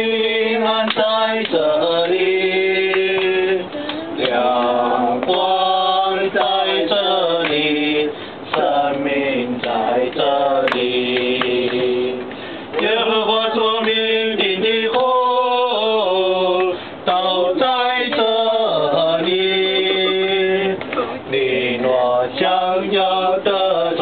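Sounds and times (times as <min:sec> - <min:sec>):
people singing along: 0:00.0 - 0:24.0.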